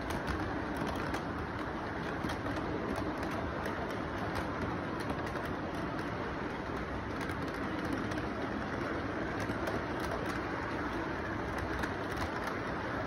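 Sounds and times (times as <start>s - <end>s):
model train rumble and whir: 0.0s - 13.0s
wheels clicking over rail joints: 0.0s - 13.0s.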